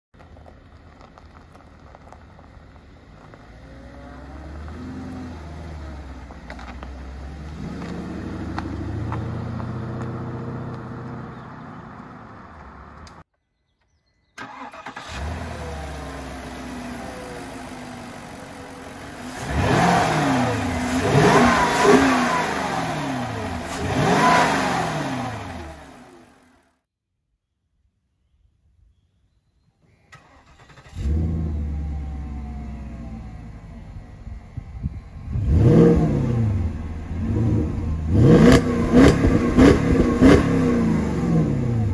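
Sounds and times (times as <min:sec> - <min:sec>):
car engine driving off: 0:00.2 - 0:13.2, 0:14.4 - 0:26.6, 0:30.0 - 0:41.9
car engine revving: 0:03.0 - 0:13.2, 0:14.4 - 0:26.6, 0:30.2 - 0:41.9.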